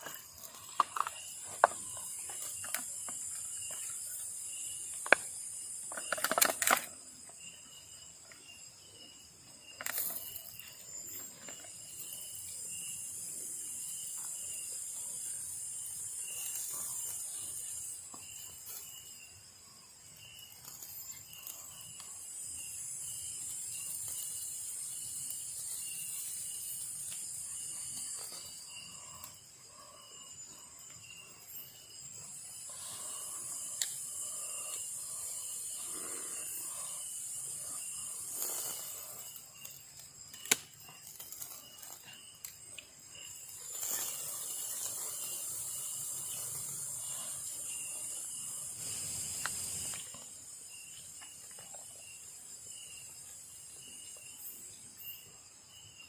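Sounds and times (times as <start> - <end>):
insects buzzing: 0.0 - 56.0
repeating insect chirp: 0.0 - 56.0.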